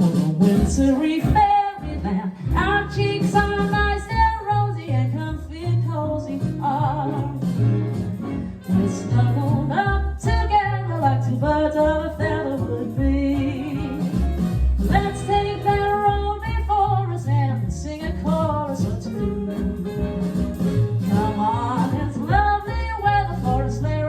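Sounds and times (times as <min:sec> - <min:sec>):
instrumental backing with bass: 0:00.0 - 0:24.0
woman singing: 0:00.4 - 0:07.6, 0:08.8 - 0:14.3, 0:14.9 - 0:19.8, 0:21.1 - 0:24.0.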